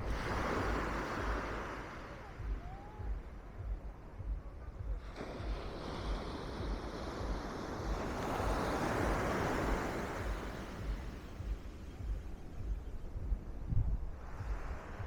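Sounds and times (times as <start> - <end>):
waves breaking on beach: 0.0 - 3.6, 4.3 - 12.3, 14.1 - 15.0
wind buffeting microphone: 0.0 - 15.0.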